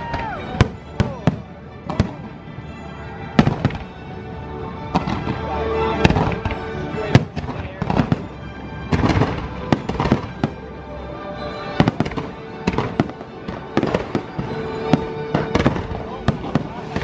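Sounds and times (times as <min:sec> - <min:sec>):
fireworks bangs and crackles: 0:00.0 - 0:10.8, 0:11.4 - 0:17.0
show music: 0:00.0 - 0:17.0.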